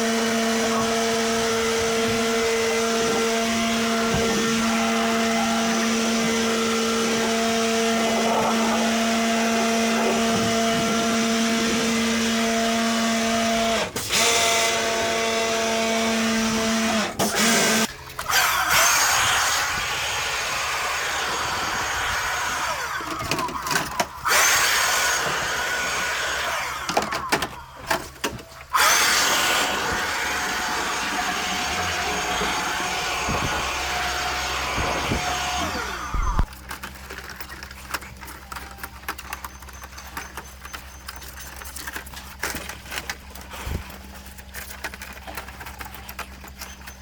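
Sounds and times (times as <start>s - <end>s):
electric motor humming: 0.0s - 39.4s.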